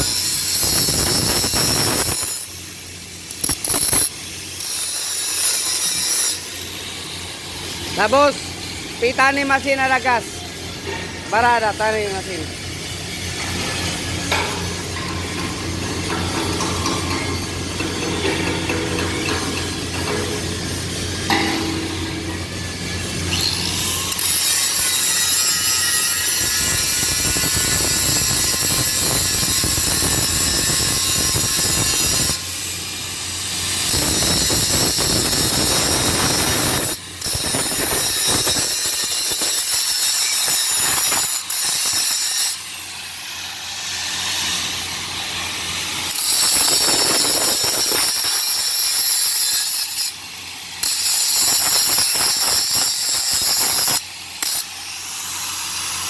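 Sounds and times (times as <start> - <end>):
arc welding crackling: 0.0 - 56.0.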